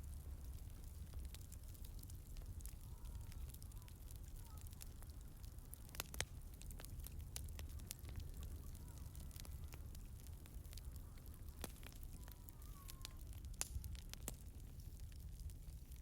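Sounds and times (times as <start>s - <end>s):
campfire crackling pops: 0.0s - 16.0s
low steady fire rumble: 0.0s - 16.0s.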